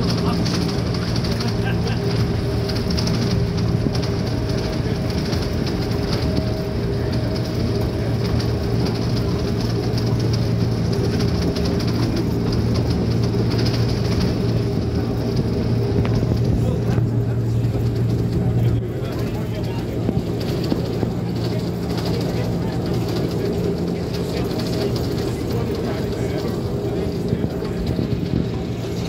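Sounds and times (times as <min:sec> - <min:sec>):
electric train running hum: 0:00.0 - 0:29.0
wheels rumbling on track: 0:00.0 - 0:29.0.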